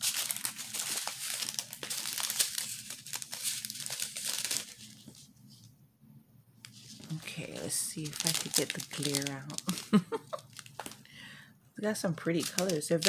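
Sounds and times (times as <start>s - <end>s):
plastic bags crinkling: 0.0s - 5.2s, 6.7s - 11.1s, 12.2s - 13.0s.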